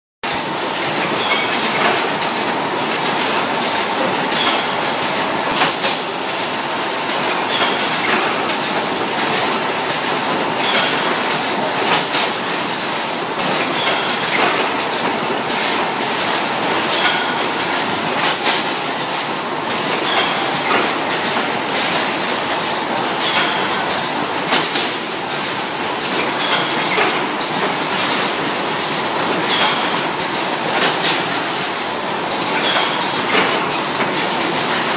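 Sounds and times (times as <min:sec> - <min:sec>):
conveyor mechanical clatter: 0:00.2 - 0:34.9
sharp machine clacks: 0:00.3 - 0:34.9.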